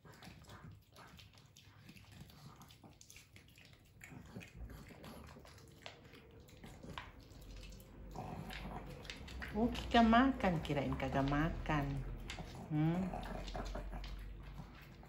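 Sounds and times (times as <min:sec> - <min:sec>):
dogs crunching kibble: 0:00.0 - 0:15.0.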